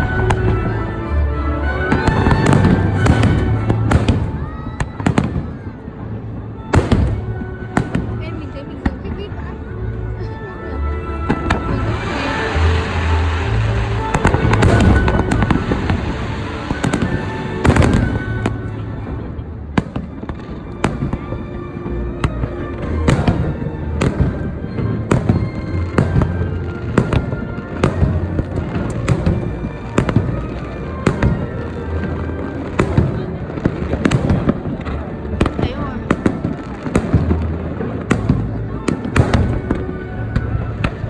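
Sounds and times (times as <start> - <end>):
fireworks bursting: 0.0 - 6.0, 6.6 - 9.5, 11.3 - 41.0
music playing: 0.0 - 41.0.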